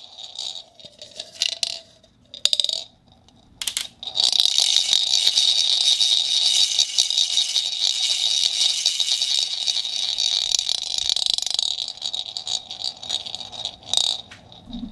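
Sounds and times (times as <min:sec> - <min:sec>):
ball rattling inside a plastic cup: 0:00.0 - 0:14.9.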